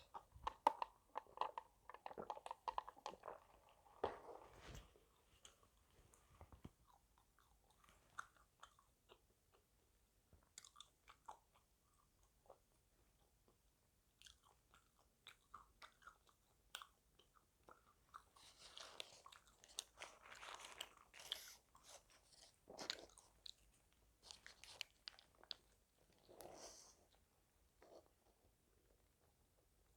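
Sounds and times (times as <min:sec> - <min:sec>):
chewing and biting food: 0:00.0 - 0:04.3, 0:06.7 - 0:27.2.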